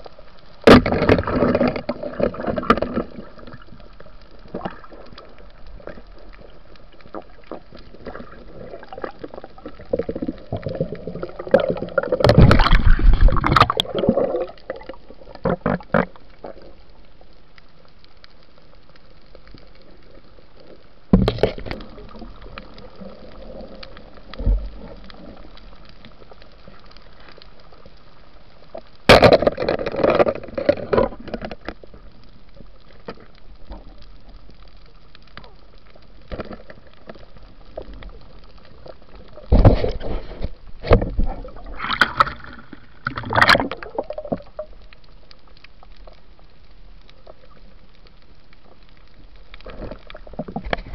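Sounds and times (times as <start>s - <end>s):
water bubbling and rushing: 0.0s - 17.7s, 19.1s - 50.9s
steady underwater hiss: 1.2s - 29.1s, 30.4s - 50.9s.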